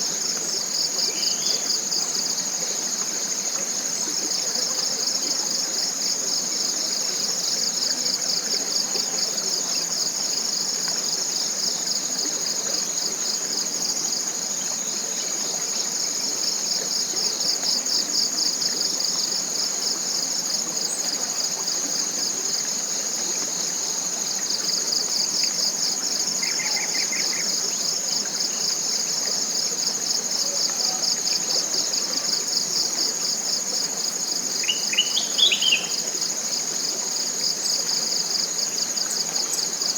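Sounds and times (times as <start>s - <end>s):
rapidly pulsing insect trill: 0.0s - 39.9s
small stream hissing: 0.0s - 39.9s.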